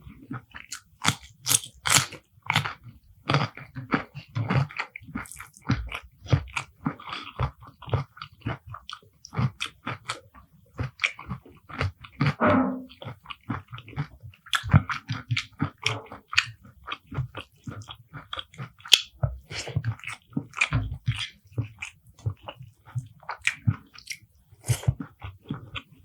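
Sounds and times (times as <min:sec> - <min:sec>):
wet chewing and crunching: 0:00.1 - 0:12.3, 0:13.3 - 0:26.0.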